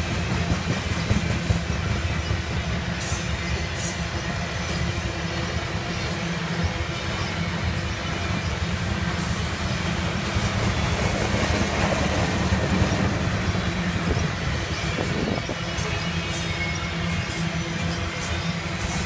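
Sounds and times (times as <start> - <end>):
rail clicks: 0.0 - 19.0
train wheels rumbling on rail: 0.0 - 19.0.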